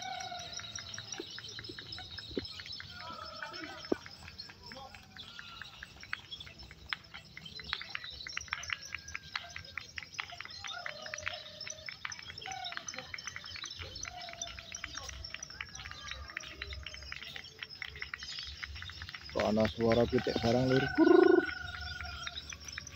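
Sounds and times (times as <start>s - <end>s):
many songbirds singing: 0.0s - 22.9s.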